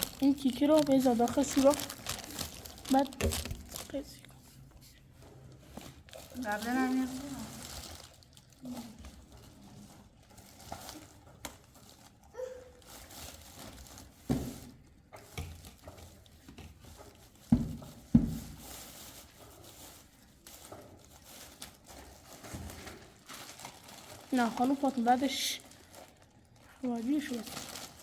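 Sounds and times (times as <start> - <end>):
rustling: 0.0 - 28.0.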